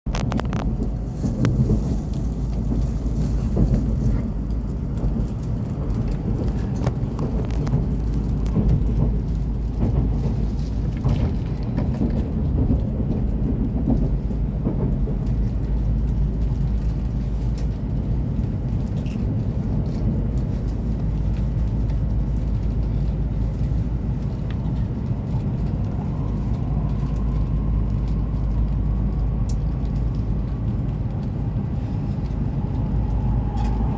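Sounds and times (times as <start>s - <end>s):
train rumble inside cabin: 0.0s - 33.9s.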